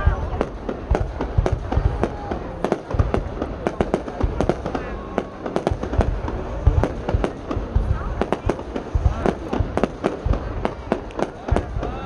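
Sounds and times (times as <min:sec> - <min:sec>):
deep fireworks booms: 0:00.0 - 0:12.0
fireworks cracking: 0:00.0 - 0:12.0.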